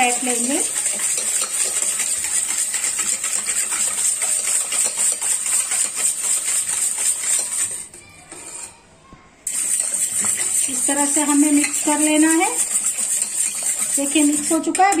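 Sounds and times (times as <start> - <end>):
whisk beating batter in pot: 0.0 - 8.6, 9.5 - 15.0.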